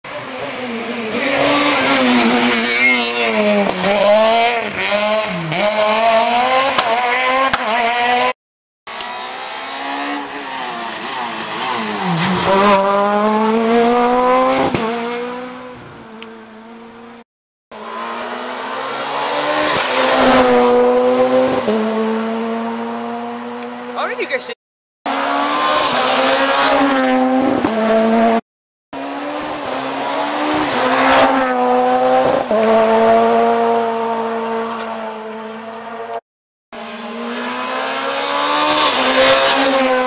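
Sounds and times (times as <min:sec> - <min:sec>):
rally cars revving past: 0:00.1 - 0:08.3, 0:08.9 - 0:16.9, 0:17.8 - 0:24.0, 0:25.1 - 0:28.4, 0:29.0 - 0:36.2, 0:36.8 - 0:40.0.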